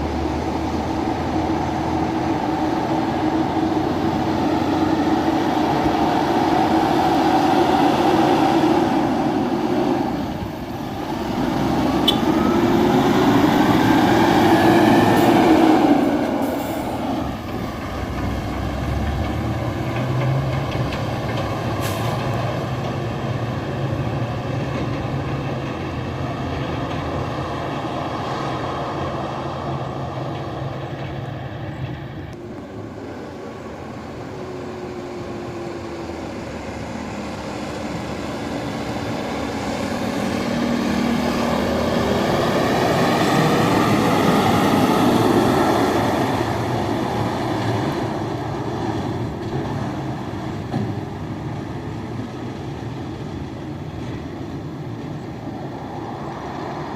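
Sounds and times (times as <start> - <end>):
dump truck diesel engines passing: 0.0 - 56.9.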